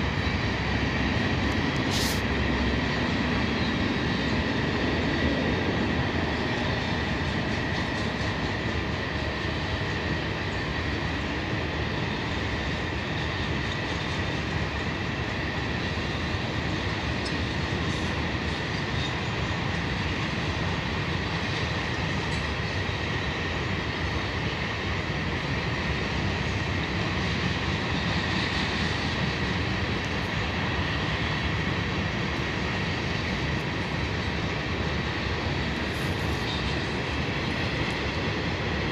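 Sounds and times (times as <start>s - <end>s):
railcars rumbling: 0.0s - 38.9s.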